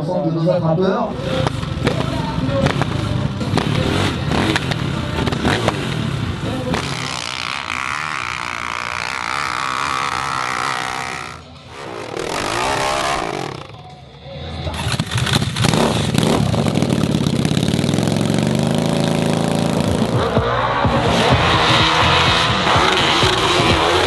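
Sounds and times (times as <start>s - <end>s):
motorcycle engine revving: 1.1s - 14.0s, 14.6s - 24.0s.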